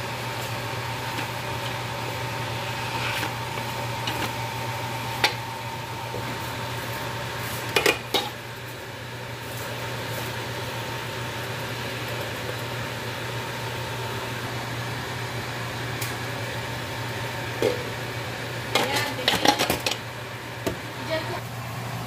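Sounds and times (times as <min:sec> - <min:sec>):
food cooking in covered wok: 0:00.0 - 0:22.0.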